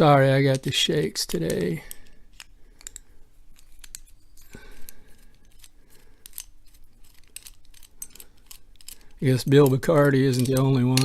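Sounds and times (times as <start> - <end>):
small metallic clicks: 0.5 - 11.0.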